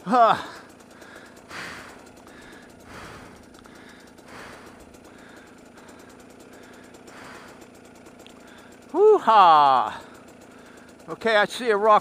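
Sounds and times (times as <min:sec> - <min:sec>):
dirt bike engine idling: 0:00.0 - 0:12.0
person breathing heavily: 0:00.3 - 0:08.9, 0:09.8 - 0:11.0.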